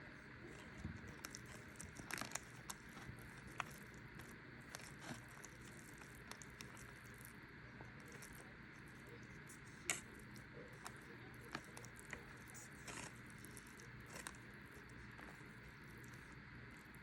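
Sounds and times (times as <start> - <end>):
faint eating sounds: 0.0 - 17.0.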